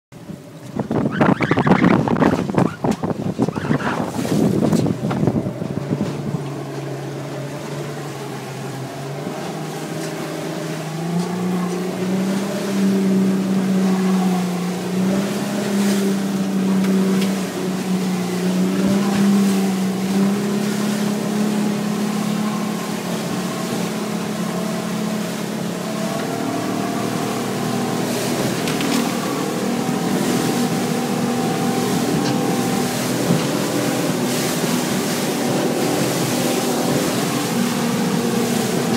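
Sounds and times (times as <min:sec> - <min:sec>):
water and wind rushing along hull: 0:00.1 - 0:38.9
outboard motor running: 0:00.2 - 0:38.9.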